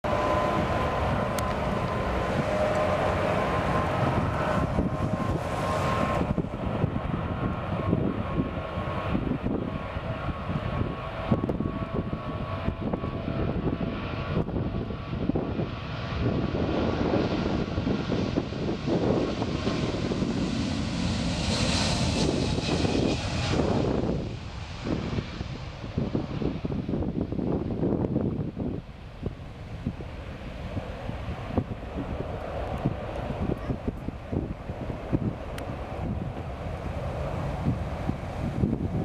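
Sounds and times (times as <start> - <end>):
jet engines rumbling: 0.0 - 39.0
jet engine whine and hiss: 0.1 - 39.0.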